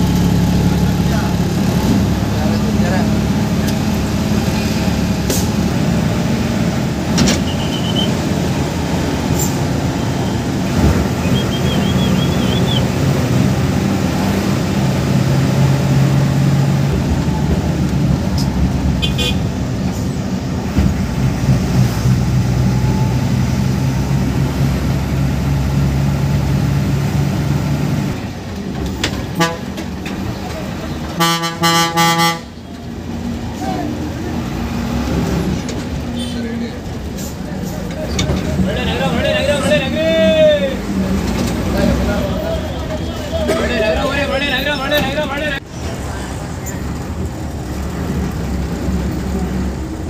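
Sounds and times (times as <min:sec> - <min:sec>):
bus diesel engine droning: 0:00.0 - 0:50.0
road and cabin rattle: 0:00.0 - 0:50.0.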